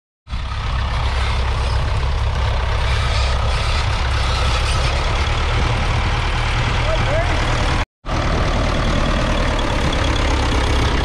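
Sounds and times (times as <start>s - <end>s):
tractor diesel engine running: 0.3s - 11.0s.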